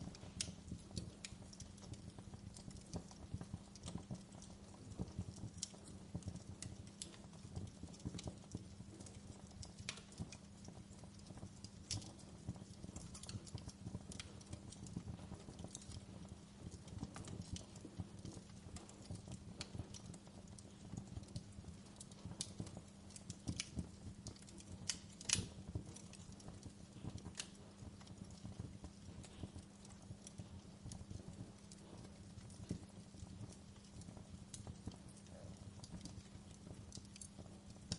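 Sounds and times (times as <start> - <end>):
fire pops and snaps: 0.0 - 37.9
wood fire crackling: 0.0 - 37.9.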